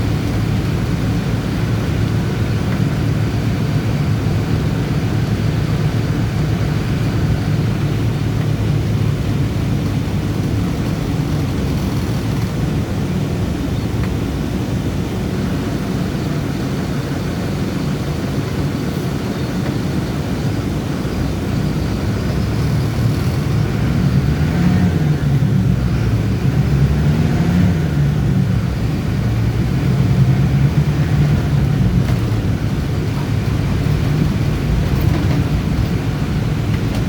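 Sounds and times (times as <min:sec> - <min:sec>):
bus diesel engine running: 0:00.0 - 0:37.0
road noise: 0:00.0 - 0:37.0.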